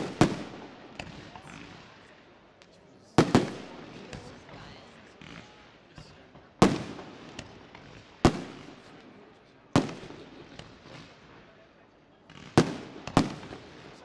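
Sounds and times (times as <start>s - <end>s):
fireworks bangs echoing: 0.0s - 11.6s, 12.2s - 14.0s.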